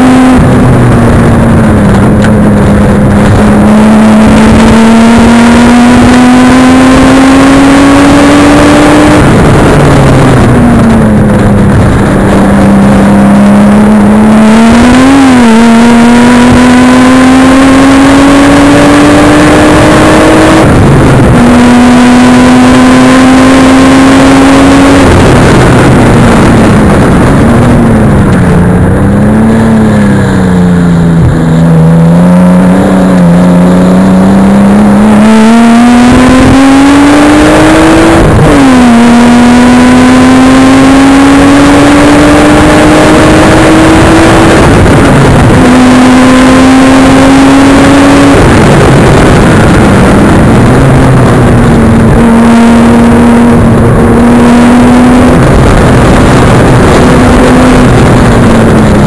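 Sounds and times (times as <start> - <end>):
car engine revving at full throttle: 0.0 - 59.0
wind and road noise: 0.0 - 59.0.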